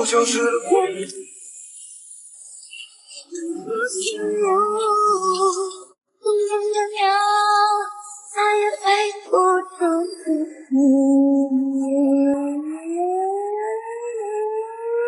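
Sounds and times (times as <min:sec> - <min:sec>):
song with high sustained vocal: 0:00.0 - 0:15.0.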